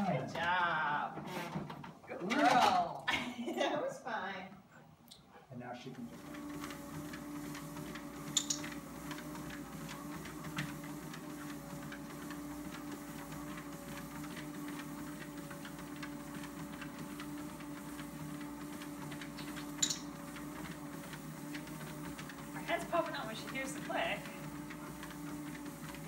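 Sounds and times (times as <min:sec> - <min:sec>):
treadmill motor humming: 0:04.7 - 0:26.0.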